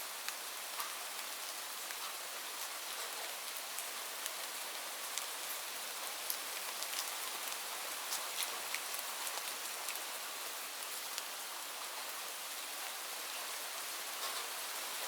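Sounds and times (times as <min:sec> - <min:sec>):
raindrops ticking on a surface: 0:00.1 - 0:15.0.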